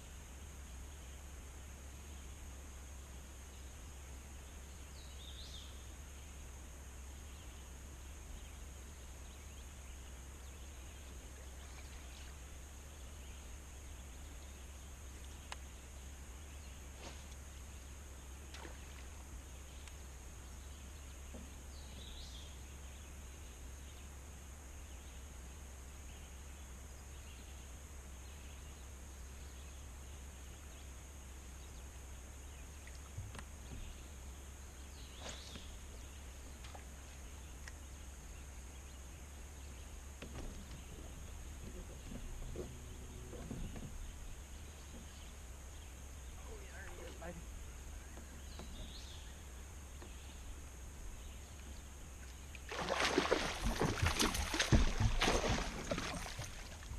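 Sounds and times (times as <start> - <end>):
faint bird chirping: 0.0 - 56.9
low hum: 0.0 - 56.9
steady hiss: 0.0 - 56.9.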